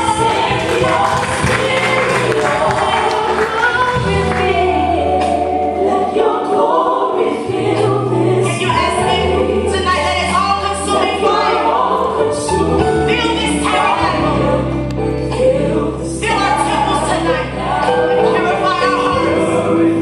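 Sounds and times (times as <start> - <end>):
choir singing: 0.0 - 20.0.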